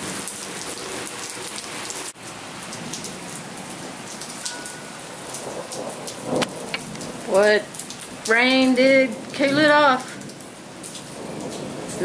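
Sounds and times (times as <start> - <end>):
rain on concrete: 0.0 - 12.0.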